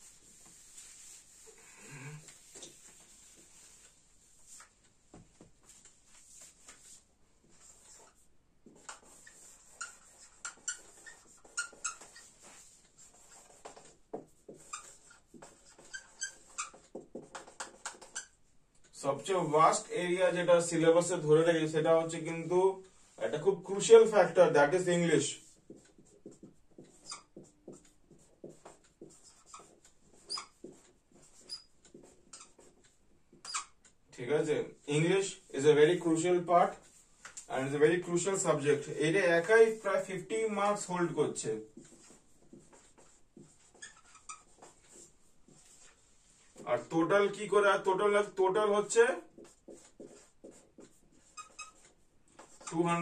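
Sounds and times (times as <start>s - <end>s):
marker squeaking on whiteboard: 0.0s - 4.8s, 5.4s - 18.5s, 22.4s - 34.0s, 34.8s - 53.0s.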